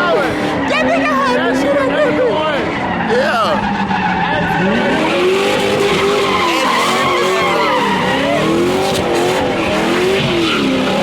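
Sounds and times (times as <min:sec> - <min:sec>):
car engine revving: 0:00.0 - 0:11.0
tyres skidding on pavement: 0:00.0 - 0:11.0.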